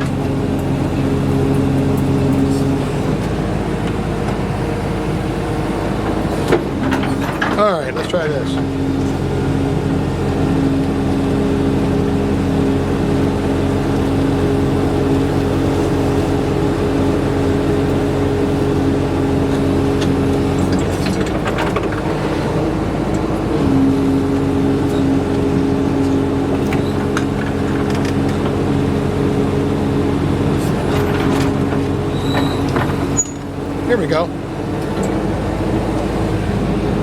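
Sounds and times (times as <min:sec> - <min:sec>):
machine engine running: 0:00.0 - 0:37.0.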